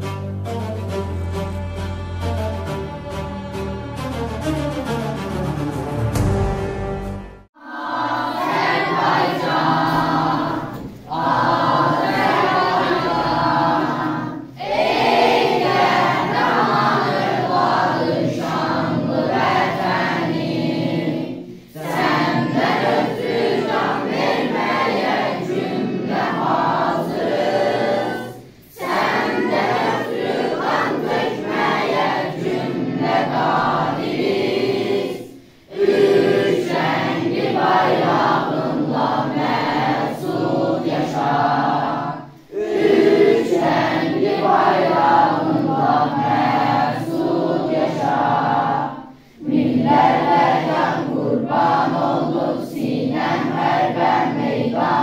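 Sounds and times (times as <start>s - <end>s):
children's choir singing: 6.2s - 55.0s.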